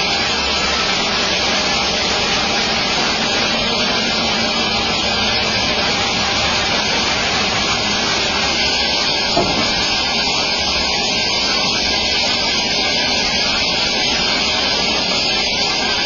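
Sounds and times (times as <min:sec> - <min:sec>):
band saw cutting log: 0:00.0 - 0:16.0.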